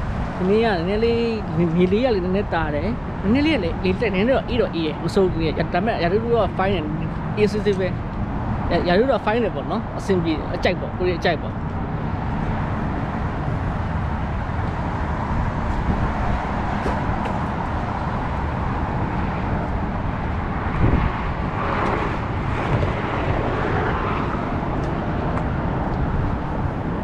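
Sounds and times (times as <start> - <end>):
road and wind noise: 0.0 - 27.0
vehicle rumbling on the move: 0.0 - 27.0.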